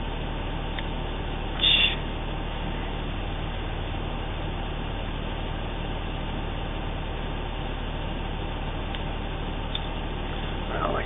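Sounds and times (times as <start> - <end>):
air conditioning hiss: 0.0 - 11.0
truck engine idling: 0.0 - 11.0.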